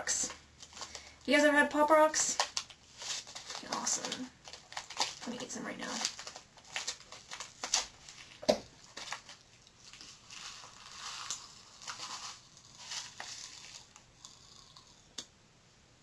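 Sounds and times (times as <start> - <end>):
candy packet crinkling: 0.0 - 15.1
candy crackling in mouth: 2.4 - 15.3.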